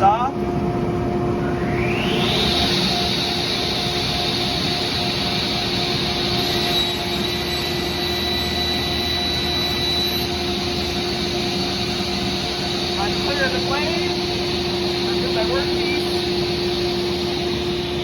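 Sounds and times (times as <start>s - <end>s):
dust collector running: 0.0s - 18.0s
table saw whining: 1.4s - 18.0s.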